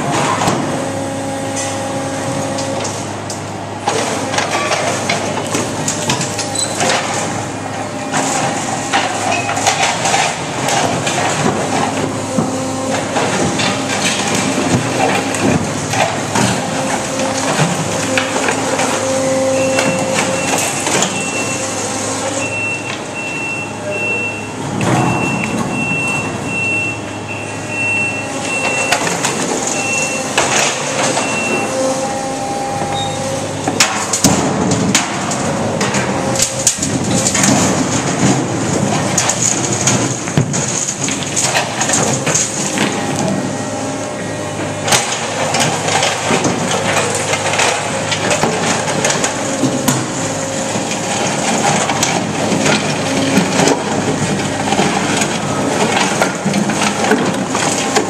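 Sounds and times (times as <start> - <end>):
hydraulics humming: 0.0 - 58.0.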